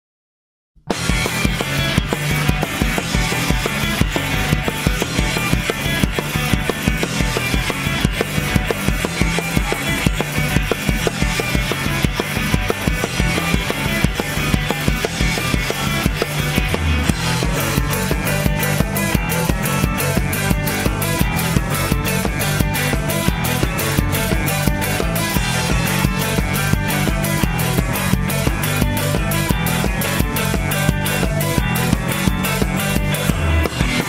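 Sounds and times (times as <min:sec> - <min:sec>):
acoustic drum kit beats: 0:00.8 - 0:34.0
rock song with guitar and bass: 0:00.9 - 0:34.0.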